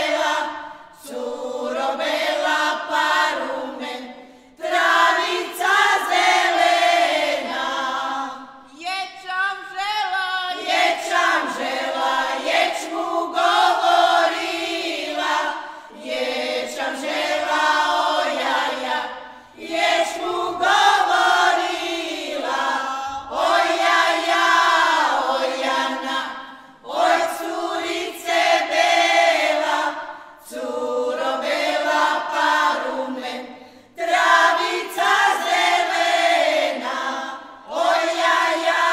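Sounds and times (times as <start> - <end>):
women's choir singing a cappella: 0.0 - 38.9.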